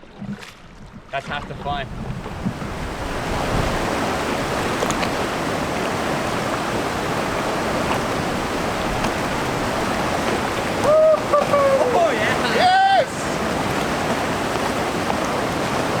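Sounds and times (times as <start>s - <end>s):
river rapids rushing: 2.5s - 16.0s.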